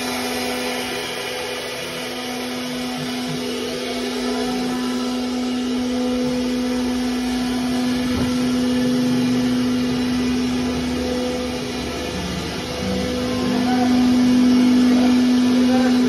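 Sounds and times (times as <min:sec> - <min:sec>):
router spindle motor hum: 0:00.0 - 0:16.0.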